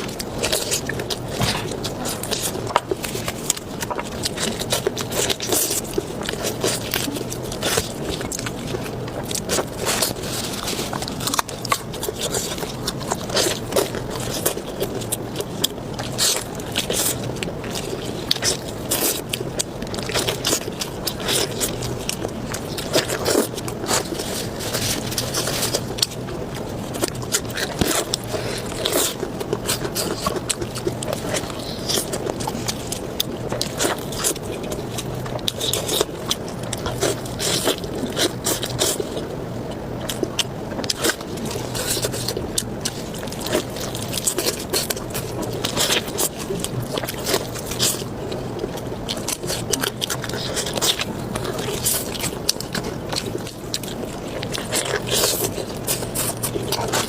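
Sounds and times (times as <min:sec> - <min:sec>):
chewing and biting: 0:00.0 - 0:57.0
small clicks and crunches: 0:00.0 - 0:57.0.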